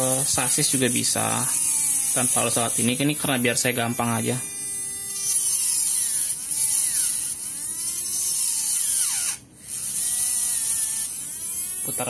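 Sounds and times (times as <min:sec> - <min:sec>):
file grinding on gear: 0:00.0 - 0:12.0
small motor whining: 0:00.0 - 0:12.0.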